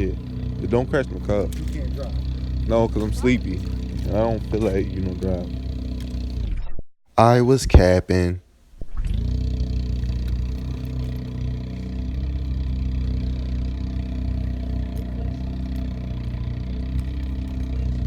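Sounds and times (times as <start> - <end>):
car engine running: 0.0 - 6.5, 7.2 - 18.0.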